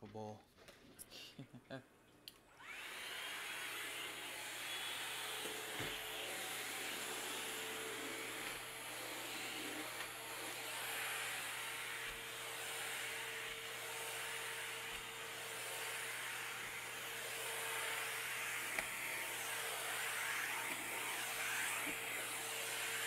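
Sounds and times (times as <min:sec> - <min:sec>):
vacuum mop motor running: 0:02.5 - 0:23.0.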